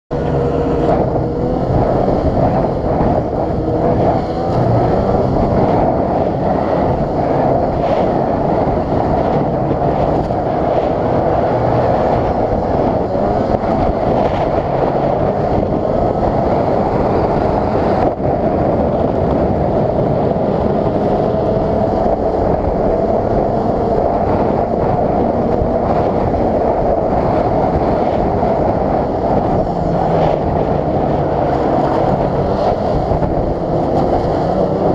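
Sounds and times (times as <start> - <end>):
snowmobile engine running: 0.1 - 34.9
steady rushing noise: 0.1 - 34.9.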